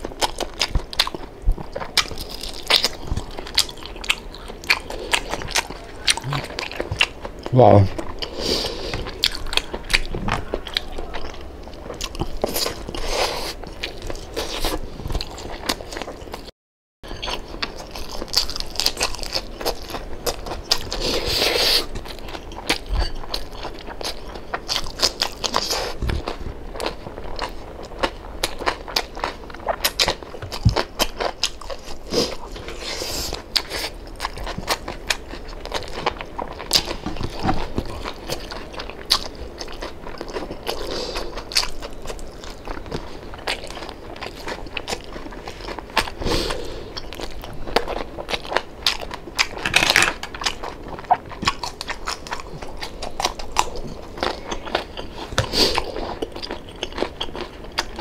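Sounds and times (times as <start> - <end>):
crunching of crispy skin: 0.0 - 16.5, 17.2 - 58.0.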